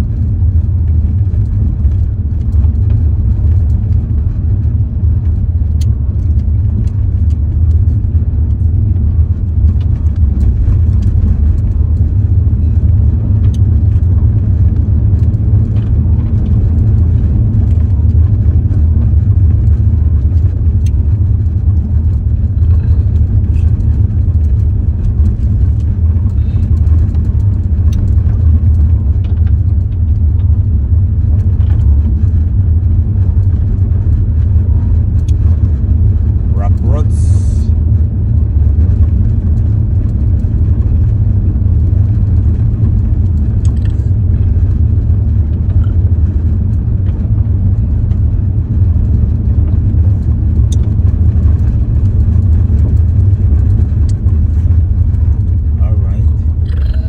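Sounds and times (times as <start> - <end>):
car rumbling on gravel road: 0.0 - 57.0.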